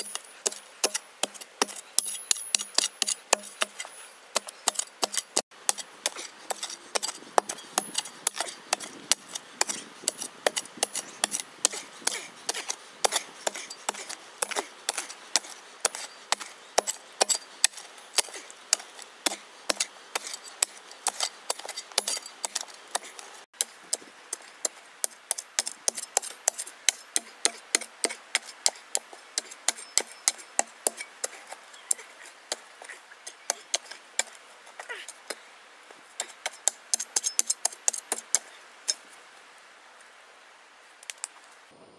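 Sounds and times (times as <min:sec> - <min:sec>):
spade chopping stony soil: 0:00.0 - 0:34.4, 0:36.2 - 0:38.5.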